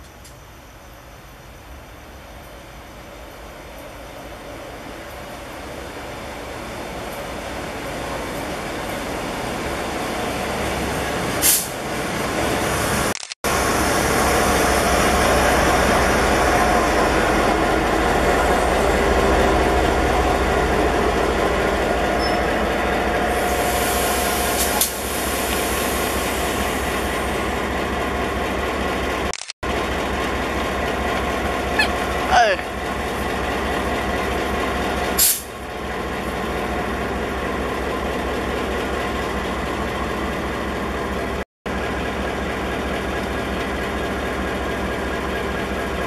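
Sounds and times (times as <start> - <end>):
train engine and wheels rumbling: 0.0 - 46.0.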